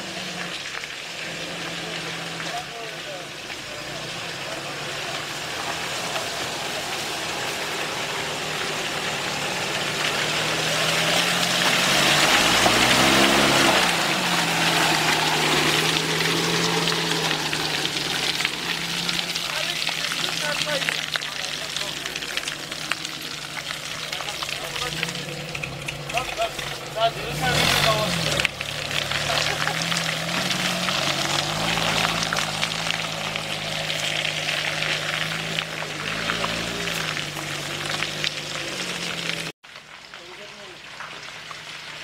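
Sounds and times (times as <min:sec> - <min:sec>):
tyres hissing through mud: 0:00.0 - 0:39.5
vehicle engine revving under load: 0:00.0 - 0:39.6.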